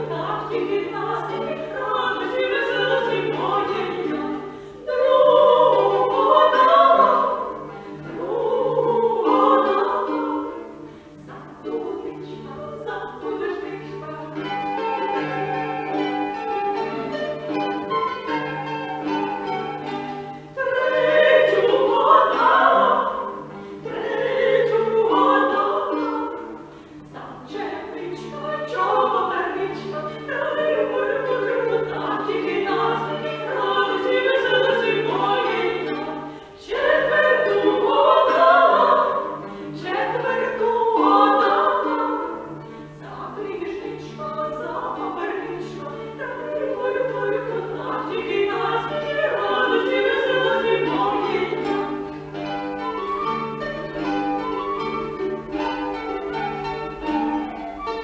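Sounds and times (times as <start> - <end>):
woman singing: 0.0 - 17.0, 20.6 - 52.0
plucked lute accompaniment: 0.0 - 58.0.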